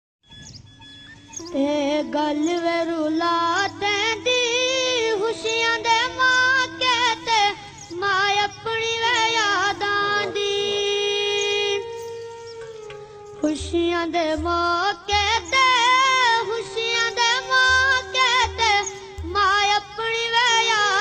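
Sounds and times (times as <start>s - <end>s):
slow sung melody: 0.3s - 21.0s.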